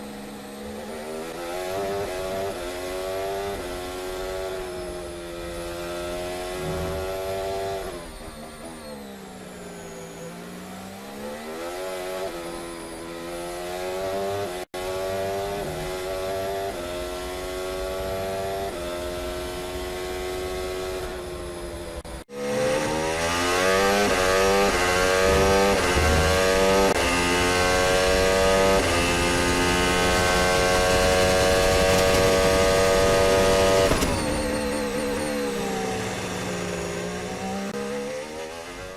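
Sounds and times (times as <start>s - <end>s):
race car engine revving: 0.1s - 38.9s.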